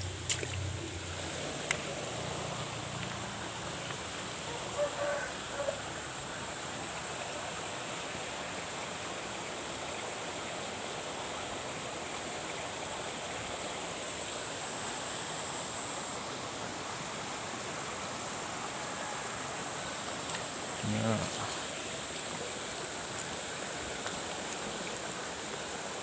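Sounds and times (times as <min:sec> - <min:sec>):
rush of running water: 0:00.0 - 0:26.0.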